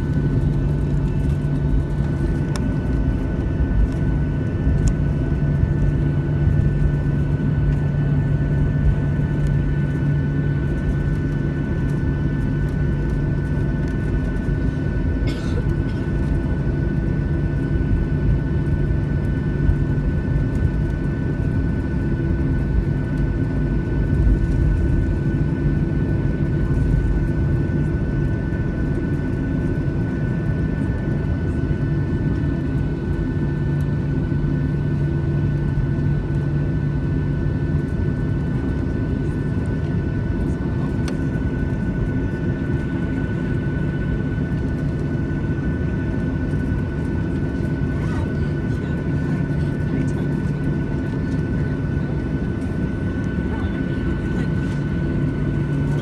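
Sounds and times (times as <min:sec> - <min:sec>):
jet engines low rumble: 0:00.0 - 0:56.0
steady high whine: 0:00.0 - 0:56.0.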